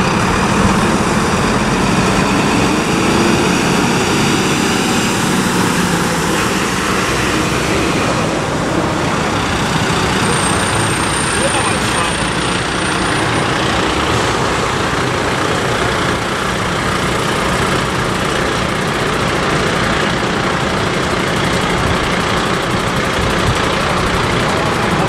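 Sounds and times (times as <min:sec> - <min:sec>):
diesel engines idling: 0:00.0 - 0:25.0.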